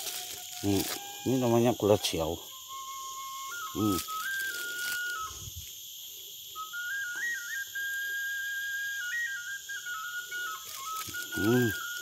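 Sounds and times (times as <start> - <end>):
whistle-like tune: 0.0 - 5.8, 6.5 - 12.0
forest insects buzzing: 0.0 - 12.0.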